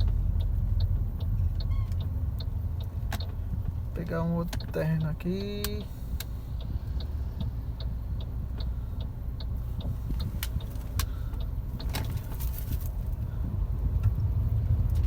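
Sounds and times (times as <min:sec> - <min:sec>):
light ticking: 0:00.0 - 0:15.0
road rumble inside car: 0:00.0 - 0:15.0.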